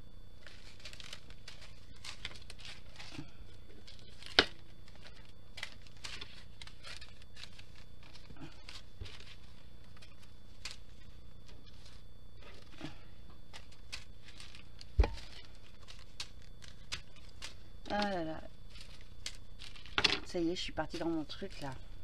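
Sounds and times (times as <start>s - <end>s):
plastic bags rustling and crinkling: 0.3s - 22.0s.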